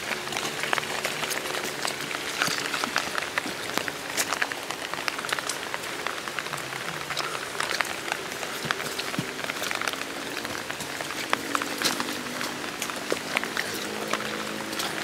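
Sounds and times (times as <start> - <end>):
light rain pattering on foliage: 0.0 - 15.0.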